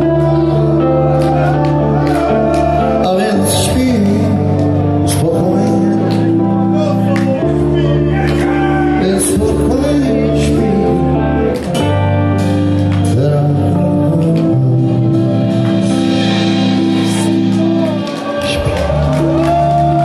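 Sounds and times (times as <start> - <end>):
blues rock band playing: 0.0 - 20.0.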